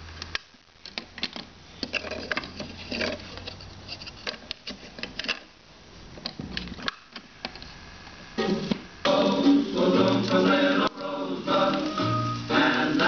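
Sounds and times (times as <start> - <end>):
quiet music from record: 0.0 - 13.0
vinyl record crackle and pops: 0.0 - 13.0.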